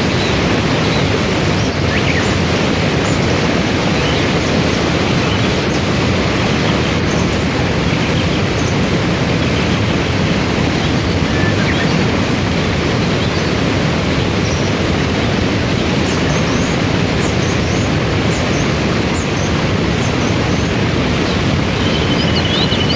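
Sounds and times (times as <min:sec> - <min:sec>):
waterfall and rapids rushing: 0:00.0 - 0:22.9.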